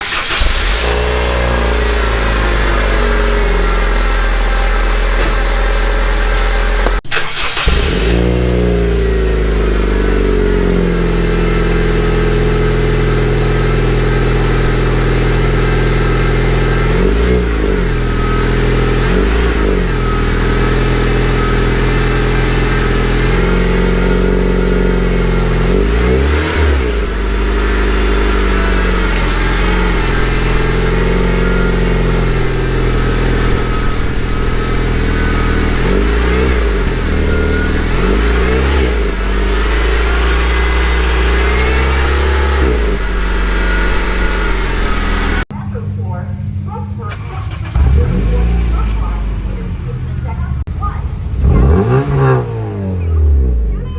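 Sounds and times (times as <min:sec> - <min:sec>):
car exhaust idling and revving: 0:00.0 - 0:53.9.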